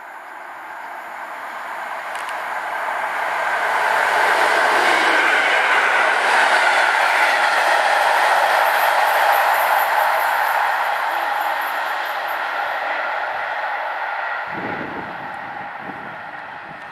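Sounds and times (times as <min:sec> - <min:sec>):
train wheels rolling on rails: 0:00.0 - 0:16.9.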